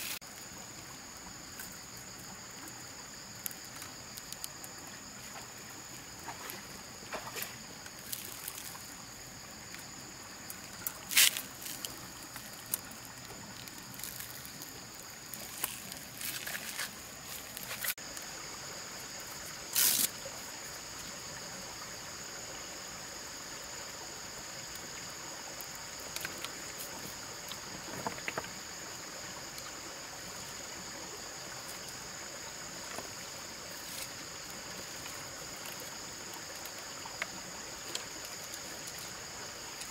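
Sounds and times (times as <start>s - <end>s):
insects droning: 0.0s - 39.9s
stream water running: 0.0s - 39.9s.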